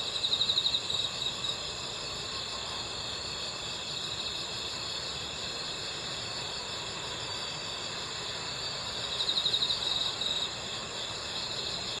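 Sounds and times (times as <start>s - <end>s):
cricket pulsed chirps: 0.0s - 12.0s
crickets chorus trilling: 0.0s - 12.0s.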